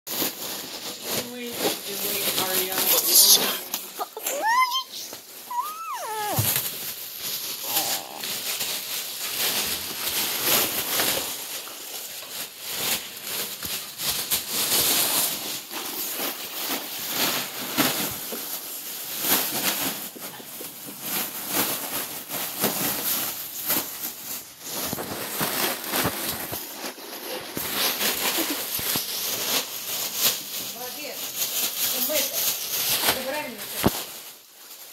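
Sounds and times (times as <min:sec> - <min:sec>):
foil balloons crinkling: 0:00.1 - 0:34.9.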